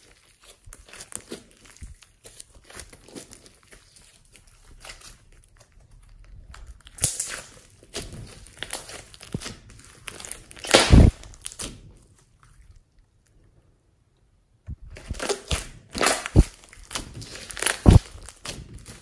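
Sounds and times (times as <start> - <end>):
slime squishing and crackling: 0.0 - 13.4, 14.8 - 19.0.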